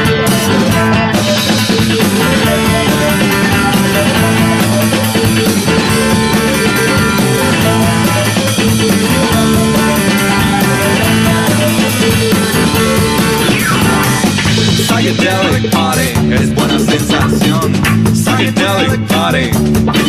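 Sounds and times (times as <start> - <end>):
drum beat: 0.0 - 20.0
electric guitar: 0.0 - 20.0.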